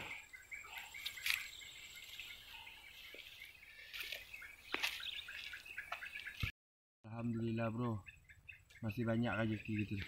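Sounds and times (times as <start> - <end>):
small wildlife chirping: 0.0 - 6.5, 7.2 - 10.0.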